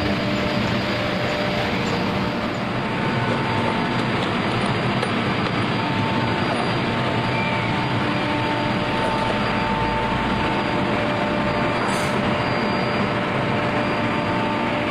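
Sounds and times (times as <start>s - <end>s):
faint high whine: 0.0s - 14.9s
machinery running: 0.0s - 14.9s.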